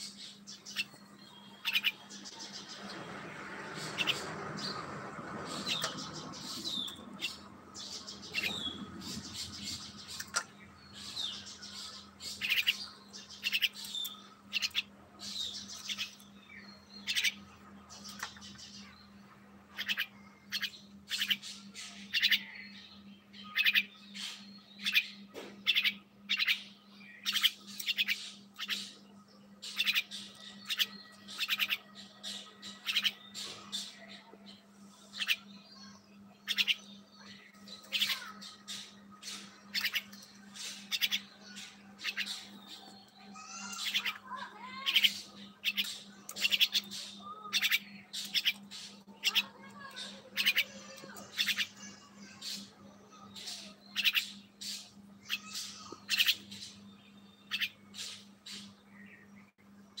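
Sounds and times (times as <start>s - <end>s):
songbird harsh calls: 0.0s - 19.0s, 19.7s - 59.3s.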